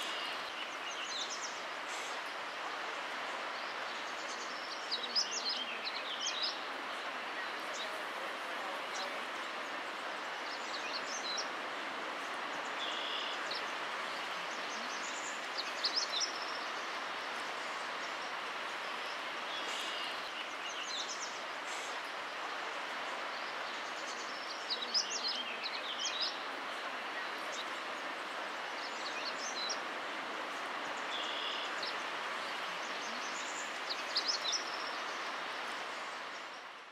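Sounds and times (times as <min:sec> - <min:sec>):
songbirds chirping: 0:00.0 - 0:36.9.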